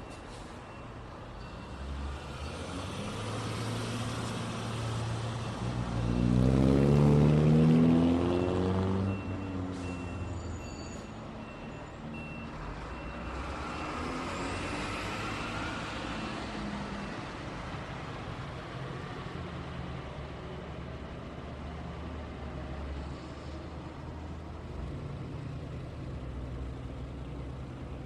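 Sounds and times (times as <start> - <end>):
street traffic: 0.0 - 28.0.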